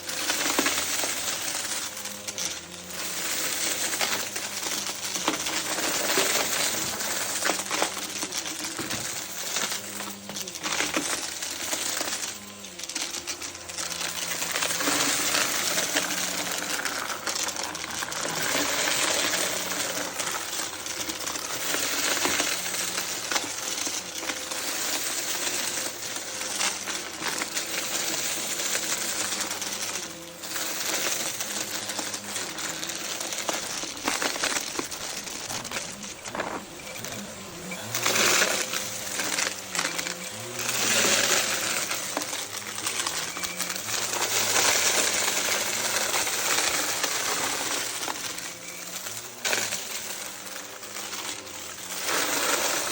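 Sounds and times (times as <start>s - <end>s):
debris clicking in vacuum: 0.0s - 52.9s
vacuum cleaner running: 0.0s - 52.9s.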